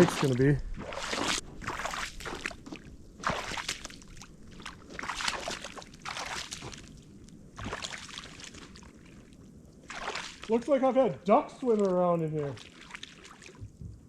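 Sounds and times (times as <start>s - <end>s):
boots sloshing through wet snow: 0.0s - 10.7s, 11.4s - 13.6s.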